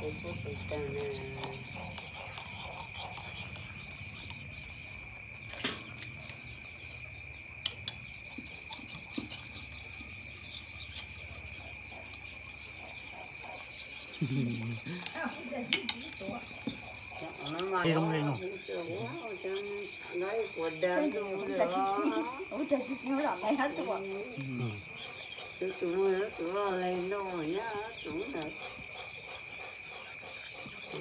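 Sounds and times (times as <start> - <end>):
knife scraping on whetstone: 0.0 - 31.0.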